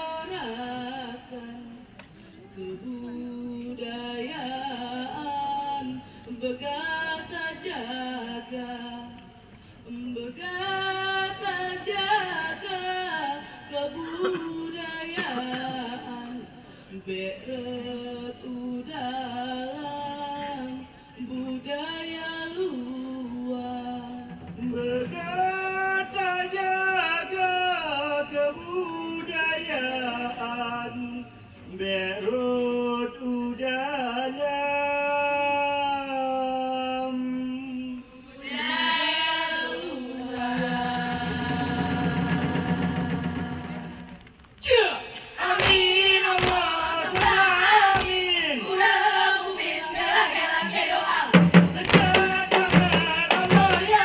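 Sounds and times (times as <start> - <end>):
women singing unaccompanied chant: 0.0 - 44.2, 45.2 - 54.0.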